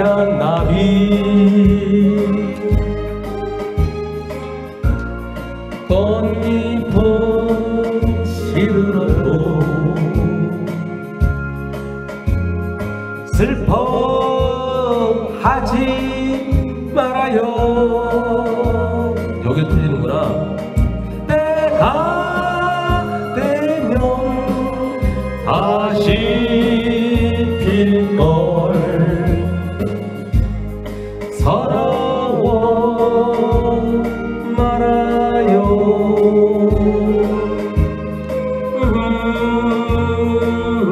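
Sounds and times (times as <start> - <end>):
man singing into microphone: 0.0 - 3.0, 5.8 - 11.3, 13.2 - 30.4, 31.2 - 40.9
karaoke backing track: 0.0 - 40.9.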